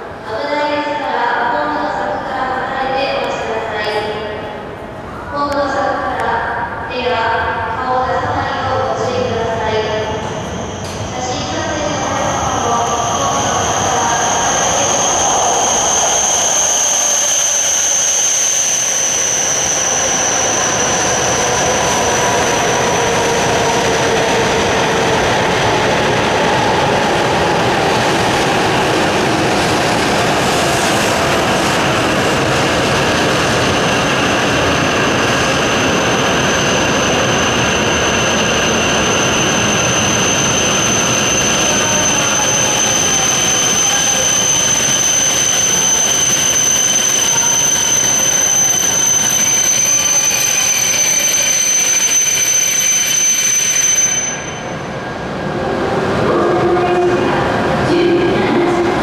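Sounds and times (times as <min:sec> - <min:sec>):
train running noise with whine: 0:00.0 - 0:59.0.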